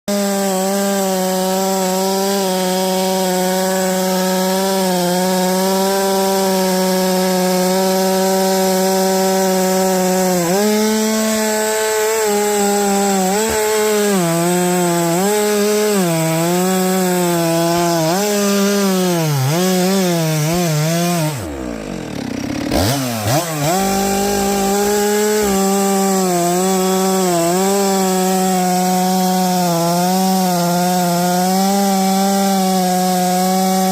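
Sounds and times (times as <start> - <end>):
chainsaw cutting through log: 0.0 - 33.9.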